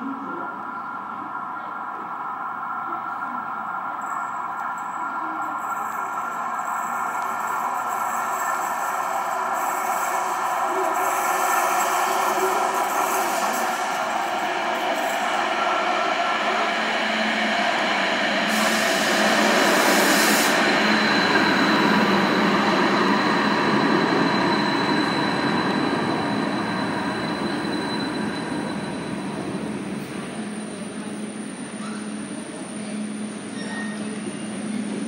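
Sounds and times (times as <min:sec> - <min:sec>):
tram wheels and motors rumbling: 0:00.0 - 0:35.0
thin high whine: 0:00.3 - 0:34.9.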